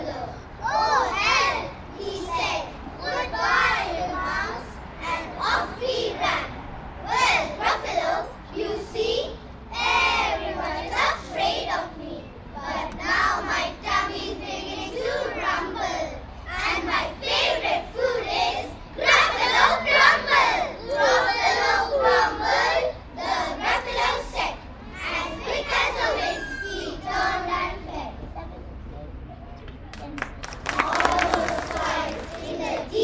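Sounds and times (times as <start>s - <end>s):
children reciting in unison: 0.0s - 28.2s, 30.7s - 33.0s.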